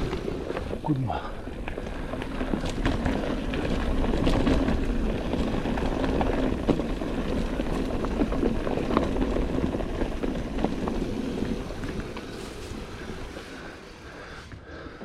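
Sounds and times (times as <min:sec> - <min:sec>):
bike rattling over bumps: 0:00.0 - 0:15.0
bike tyres on dirt trail: 0:00.0 - 0:15.0.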